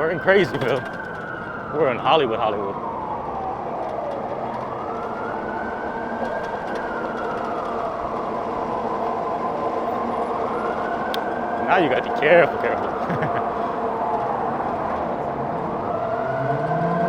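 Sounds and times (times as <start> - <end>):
emergency siren wailing: 0.0 - 17.0
traffic noise: 0.0 - 17.0.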